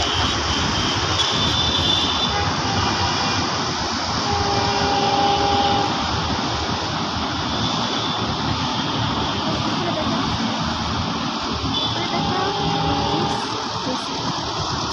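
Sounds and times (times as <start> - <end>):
road traffic rumble and hiss: 0.0 - 14.9.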